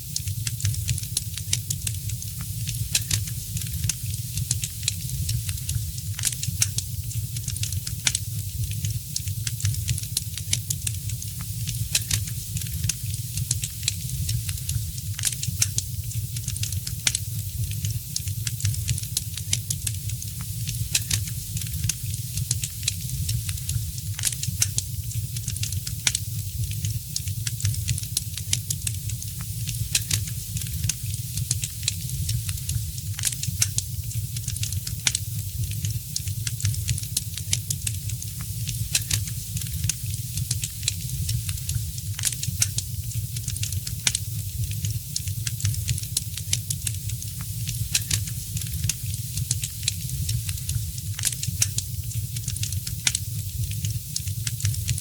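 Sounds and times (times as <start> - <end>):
fire hissing and rumbling: 0.0 - 55.0
fire pops and snaps: 0.1 - 8.2, 8.8 - 44.2, 44.8 - 55.0.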